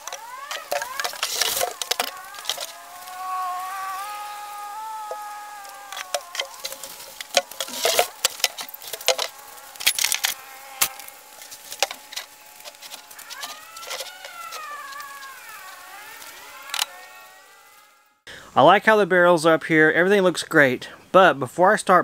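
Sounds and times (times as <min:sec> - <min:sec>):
buzzing insect flying: 0:00.0 - 0:18.3.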